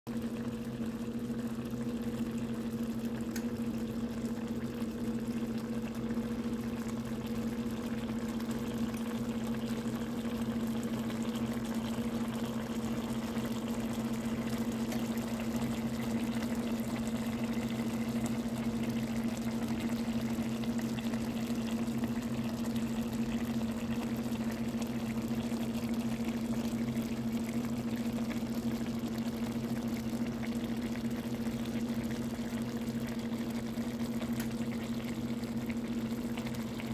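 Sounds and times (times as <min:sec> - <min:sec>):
broth bubbling in a skillet: 0:00.1 - 0:36.9.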